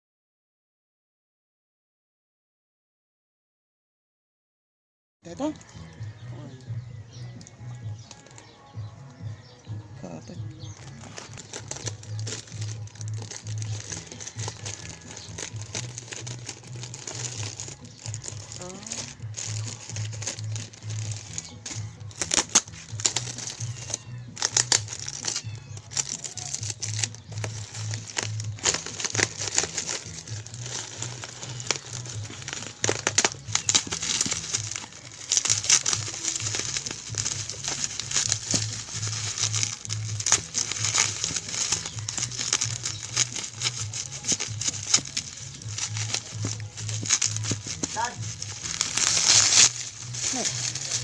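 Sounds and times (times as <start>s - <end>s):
crinkling and sharp clicks: 7.3s - 8.6s, 10.7s - 51.0s.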